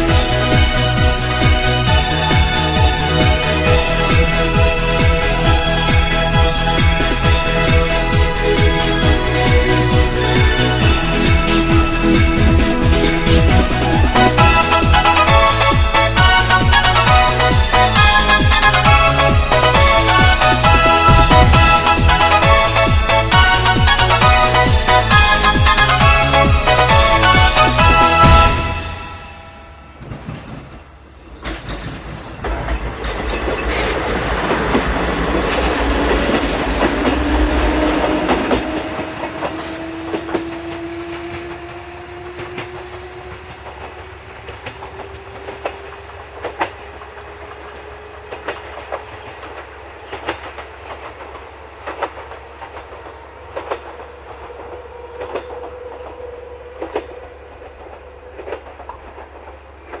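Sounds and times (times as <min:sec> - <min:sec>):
wheels clicking over rail joints: 0:00.0 - 0:29.2, 0:29.8 - 1:00.0
rush of train noise: 0:00.0 - 1:00.0
train motor whine: 0:00.0 - 1:00.0.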